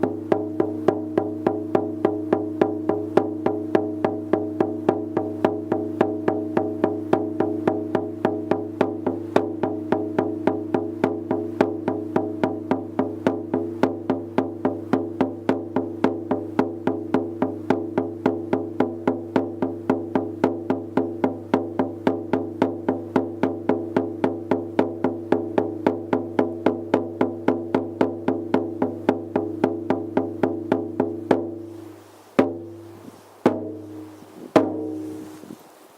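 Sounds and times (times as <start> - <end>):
frame drum beaten: 0.0 - 35.6.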